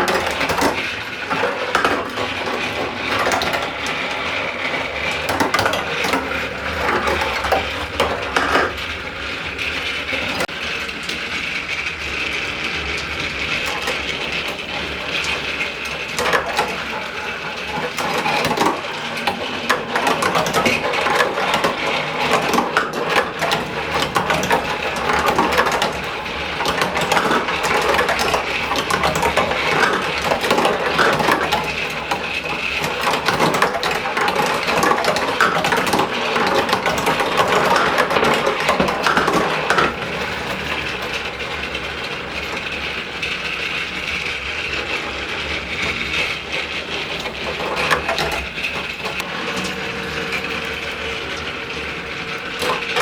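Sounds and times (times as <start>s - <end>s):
marbles clattering in plastic run: 0.0s - 53.0s.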